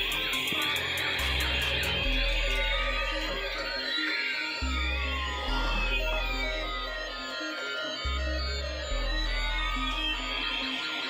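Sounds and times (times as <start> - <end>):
electronic toy tunes: 0.0 - 11.0
warbling siren-like tones: 0.0 - 11.0.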